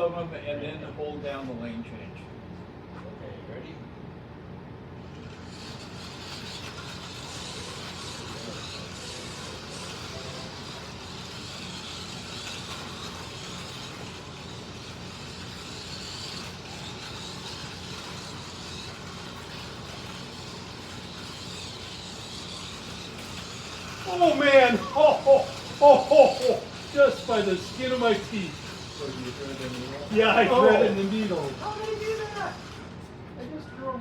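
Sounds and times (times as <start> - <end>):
slot car motors whirring: 4.6 - 33.4.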